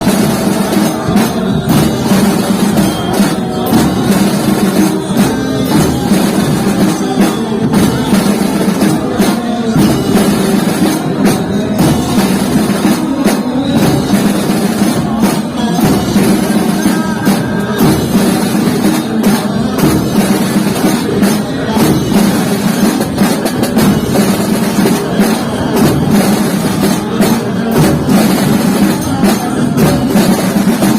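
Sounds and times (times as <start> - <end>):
drums beating steadily: 0.0 - 30.9.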